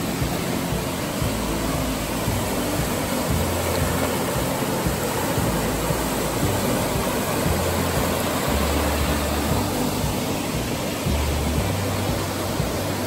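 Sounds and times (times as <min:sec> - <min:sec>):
heavy rain hissing: 0:00.0 - 0:13.0
low hum: 0:00.0 - 0:13.0.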